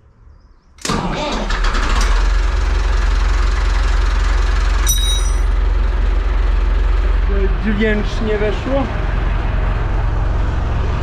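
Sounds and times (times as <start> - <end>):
tractor diesel engine running: 0.8 - 11.0.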